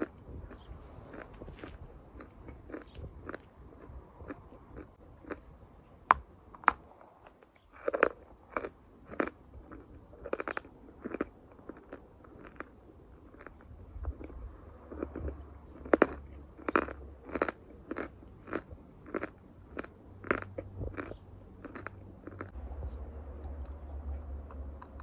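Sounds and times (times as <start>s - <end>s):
chalk being chewed: 0.0s - 5.5s, 7.4s - 25.0s.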